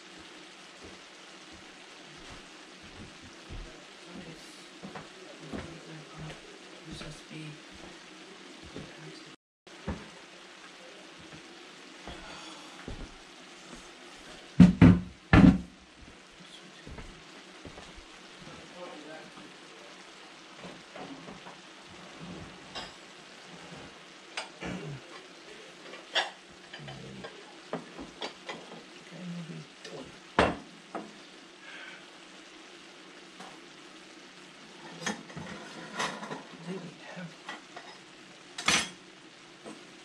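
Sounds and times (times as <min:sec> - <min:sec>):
food sizzling in a skillet: 0:00.0 - 0:40.0.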